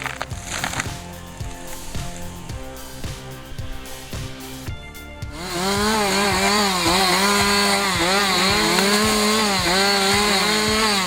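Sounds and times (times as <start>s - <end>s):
chainsaw running at high revs: 0.0s - 11.0s.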